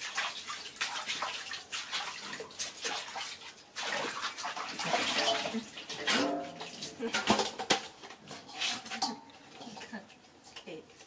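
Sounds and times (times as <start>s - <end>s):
water splashing in a steel basin: 0.0s - 10.0s.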